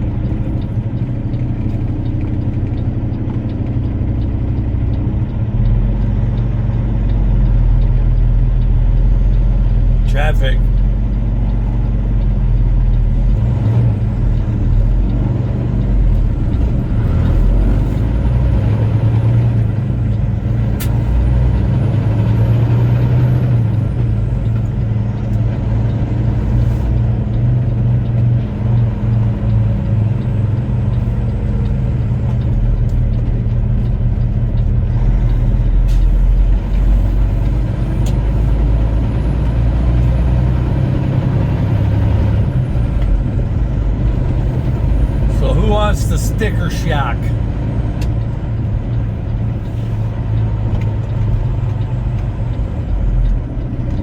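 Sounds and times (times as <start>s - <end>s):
truck diesel engine droning: 0.0s - 54.0s.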